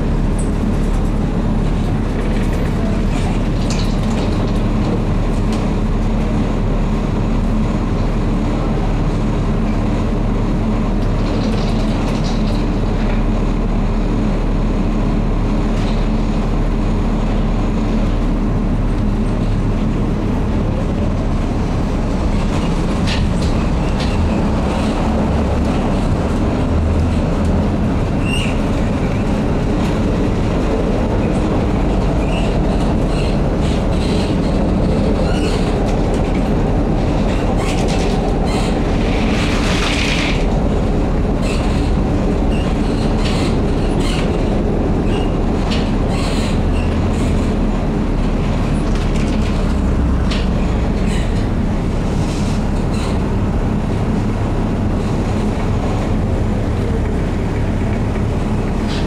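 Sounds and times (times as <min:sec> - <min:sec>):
tram wheels rumbling: 0:00.0 - 0:59.0.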